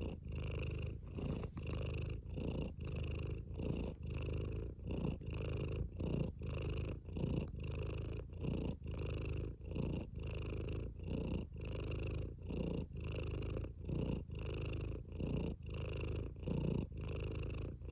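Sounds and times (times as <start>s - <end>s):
cat purring: 0.0s - 17.9s.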